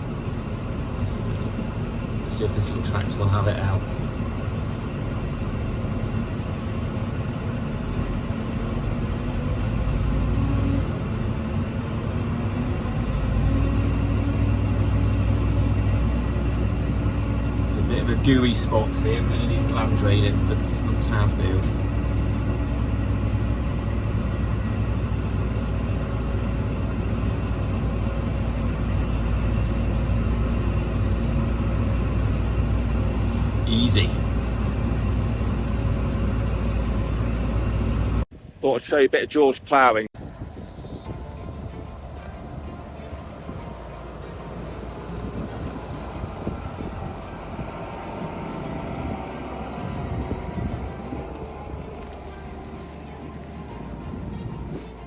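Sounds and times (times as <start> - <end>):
tractor engine running hard: 0.0 - 38.2, 40.2 - 55.0.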